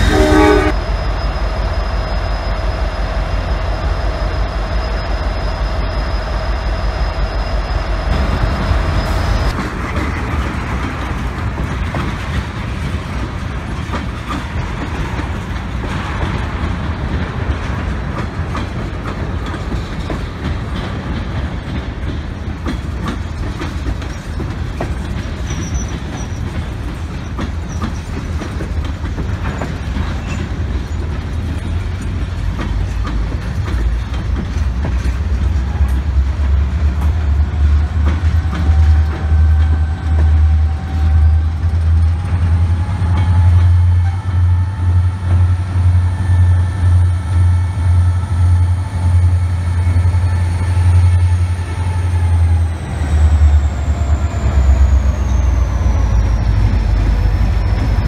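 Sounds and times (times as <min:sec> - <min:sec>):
diesel locomotive engines rumbling: 0:00.0 - 0:58.0
train wheels clattering: 0:03.2 - 0:58.0.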